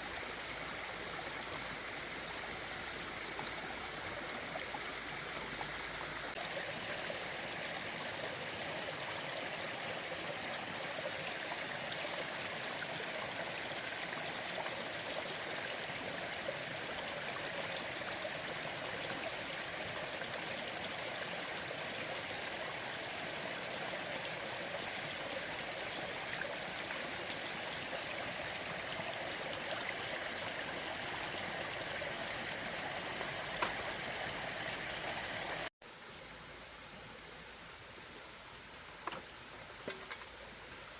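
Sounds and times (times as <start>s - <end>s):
water flowing: 0.0s - 35.7s.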